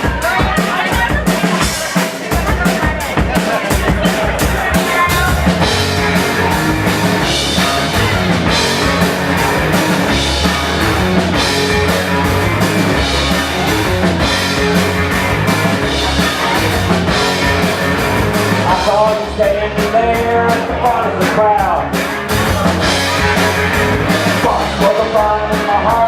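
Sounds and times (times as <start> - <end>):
drum kit beat: 0.0 - 26.0
live rock band instrumental: 0.0 - 26.0.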